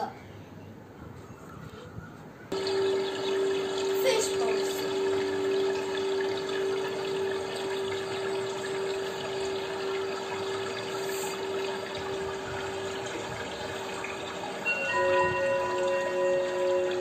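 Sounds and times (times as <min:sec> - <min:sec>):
steady hum: 0:02.4 - 0:17.0
rushing water-like noise: 0:02.5 - 0:17.0.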